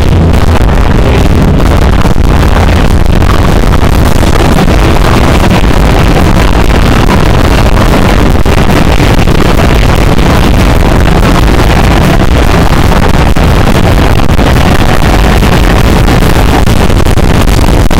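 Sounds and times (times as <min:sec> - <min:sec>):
distorted live rock band: 0:00.0 - 0:17.9.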